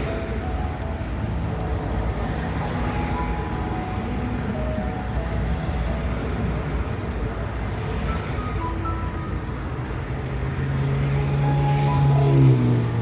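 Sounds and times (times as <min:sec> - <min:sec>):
highway traffic: 0:00.0 - 0:13.0.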